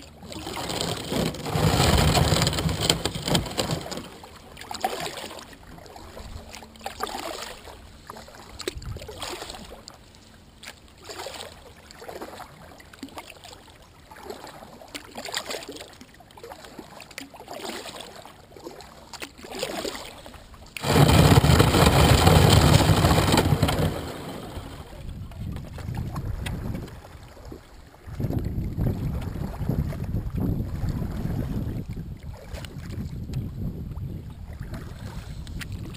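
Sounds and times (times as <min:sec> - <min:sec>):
paddle splashing water: 0:00.0 - 0:33.6, 0:34.2 - 0:35.9.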